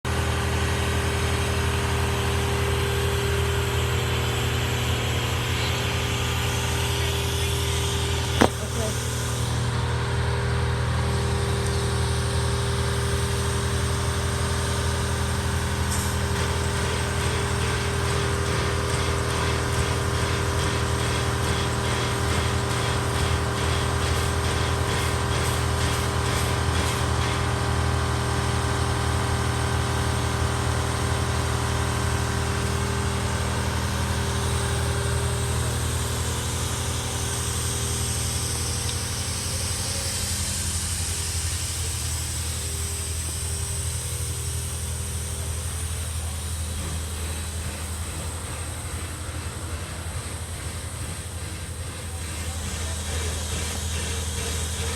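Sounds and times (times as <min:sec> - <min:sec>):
diesel locomotive engine idling: 0:00.1 - 0:54.9.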